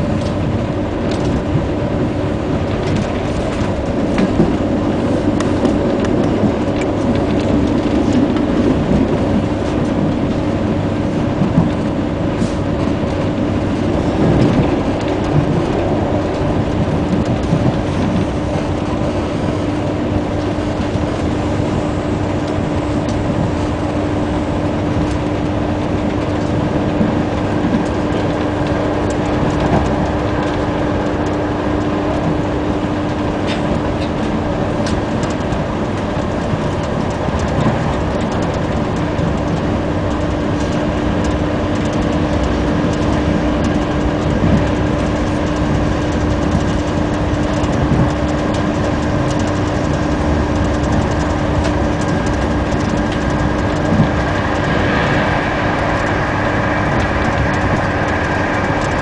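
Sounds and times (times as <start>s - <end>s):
low hum: 0.0s - 59.0s
train wheels rumbling: 0.0s - 59.0s.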